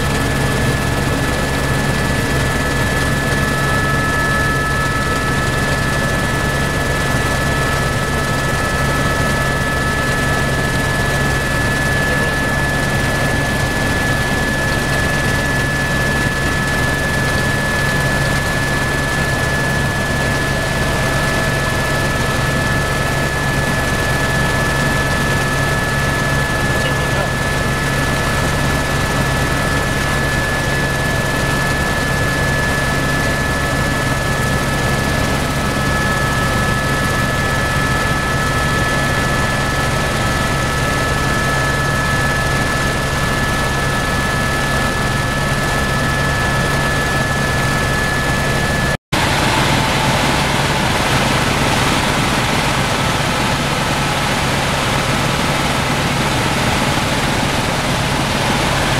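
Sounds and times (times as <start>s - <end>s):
helicopter engine and rotor drone: 0.0s - 58.9s.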